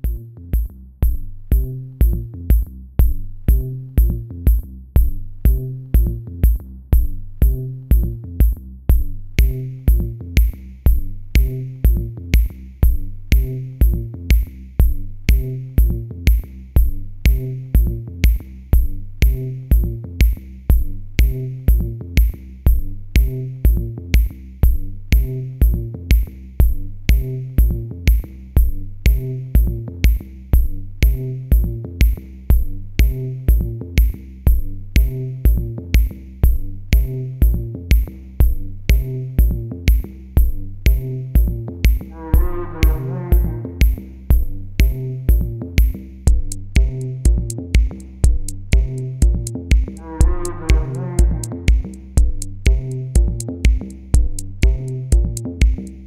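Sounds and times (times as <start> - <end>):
electronic music with drum-machine beat: 0.0 - 56.0.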